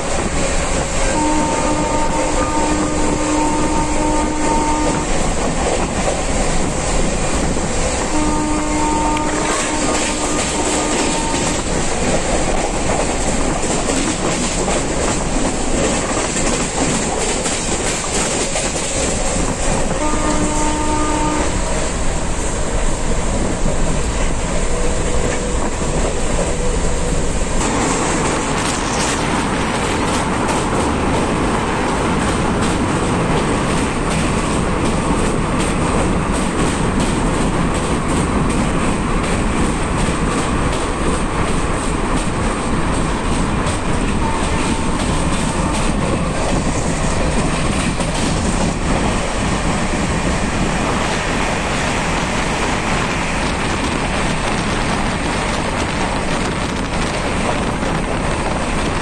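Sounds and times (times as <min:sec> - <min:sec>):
clickety-clack of train wheels: 0:00.0 - 0:59.0
train wheels rumbling on rail: 0:00.0 - 0:59.0.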